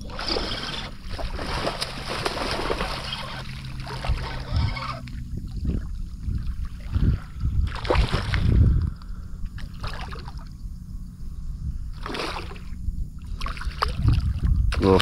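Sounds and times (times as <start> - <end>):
water splashing and sloshing: 0.0 - 10.6, 11.9 - 15.0.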